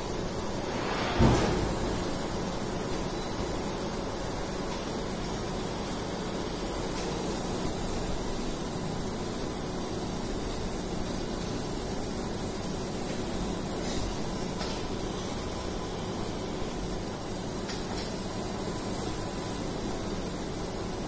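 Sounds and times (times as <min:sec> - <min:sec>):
laser machine hissing with low hum: 0:00.0 - 0:21.0.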